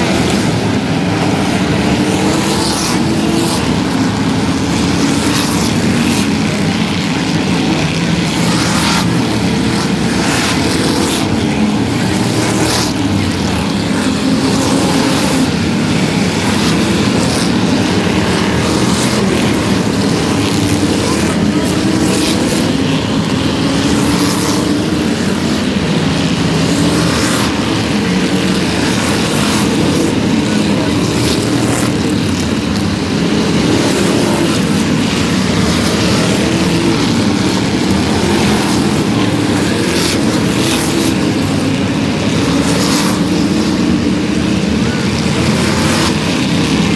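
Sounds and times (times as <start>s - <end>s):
race car engines roaring: 0.0s - 46.9s.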